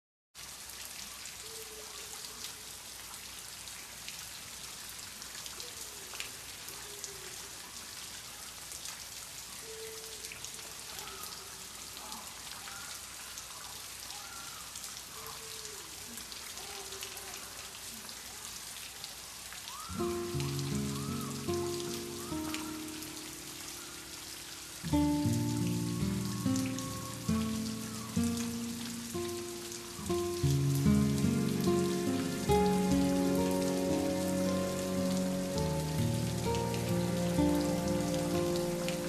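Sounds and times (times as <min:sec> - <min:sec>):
steady rain: 0:00.4 - 0:39.0.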